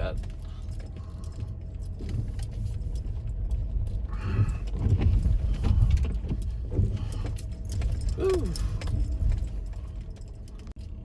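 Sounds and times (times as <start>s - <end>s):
light rattles and clicks: 0.0s - 11.0s.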